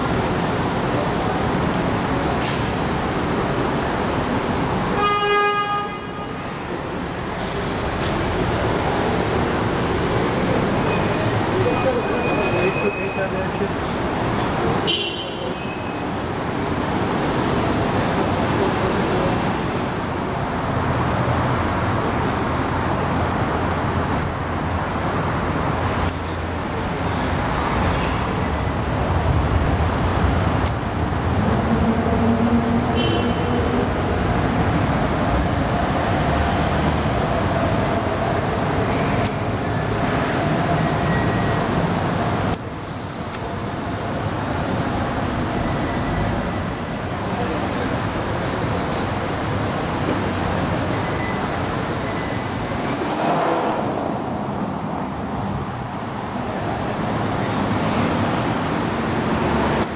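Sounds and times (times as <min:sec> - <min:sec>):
traffic drone: 0:00.0 - 0:59.9.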